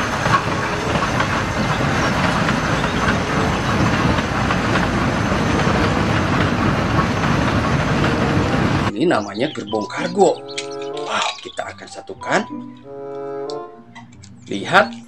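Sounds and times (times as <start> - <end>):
steam train running on bridge: 0.0 - 12.1.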